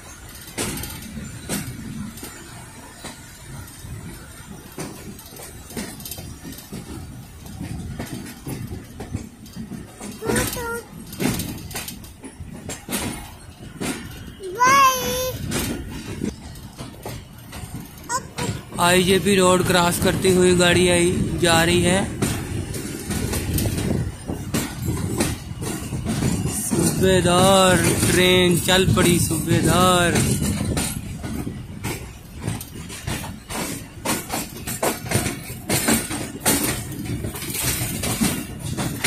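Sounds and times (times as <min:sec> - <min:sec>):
train coach rumbling: 0:00.0 - 0:39.0
wheels clicking on rails: 0:00.0 - 0:39.0.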